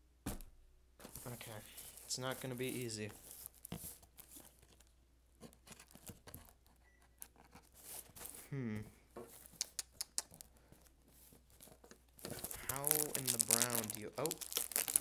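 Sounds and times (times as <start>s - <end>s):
packaging crinkling and scraping: 1.1s - 8.4s, 10.3s - 15.0s.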